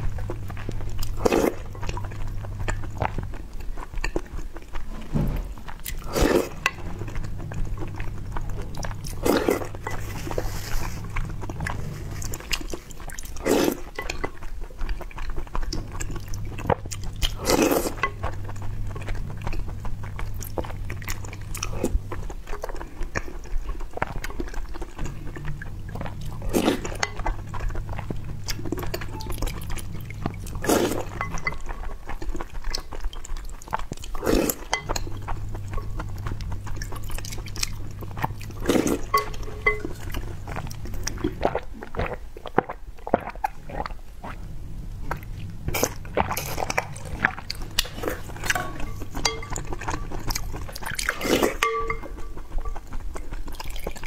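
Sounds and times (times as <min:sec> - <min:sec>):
wet chewing and smacking: 0:00.0 - 0:54.0.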